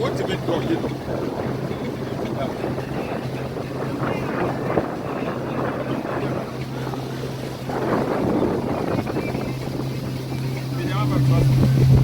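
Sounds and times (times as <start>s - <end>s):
boat motor humming: 0.0s - 12.0s
wind buffeting microphone: 0.0s - 12.0s.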